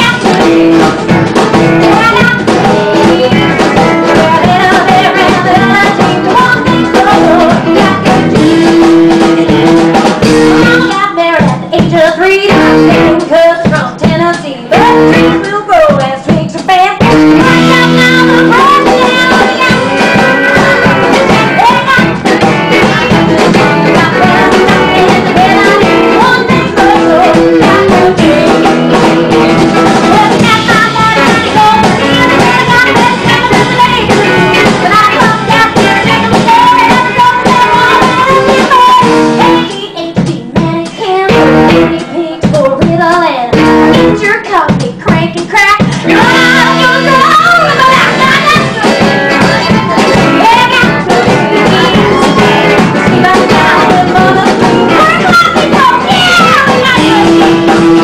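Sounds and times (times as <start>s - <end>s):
drum kit: 0.0s - 58.0s
electric guitar: 0.0s - 58.0s
live band playing blues: 0.0s - 58.0s
woman singing into a microphone: 0.0s - 58.0s.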